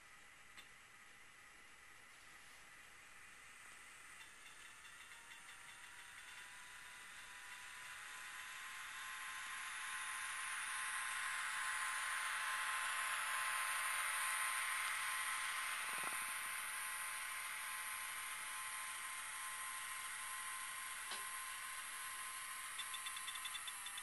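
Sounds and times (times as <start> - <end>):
model streetcar motor whirring: 3.1 - 24.0.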